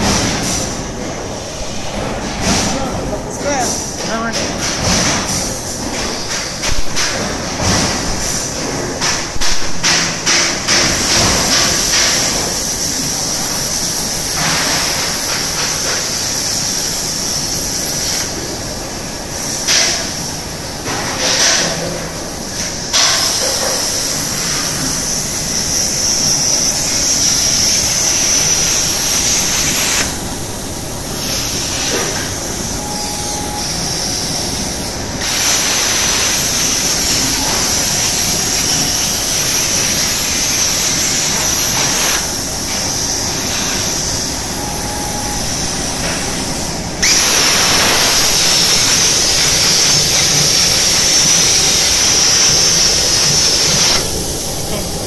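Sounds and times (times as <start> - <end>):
plasma cutter arc hissing: 0.0 - 1.9, 7.9 - 21.6, 22.3 - 55.0.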